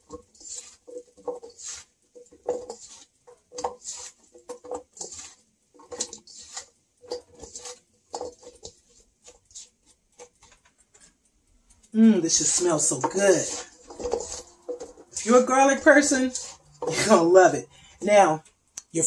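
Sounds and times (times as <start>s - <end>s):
hands tossing fries in a bowl: 0.0s - 17.5s.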